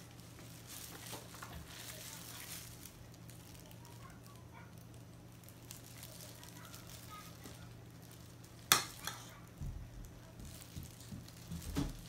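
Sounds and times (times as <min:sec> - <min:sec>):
plastic gloves rustling: 0:00.0 - 0:12.0
steady low hum: 0:00.0 - 0:12.0.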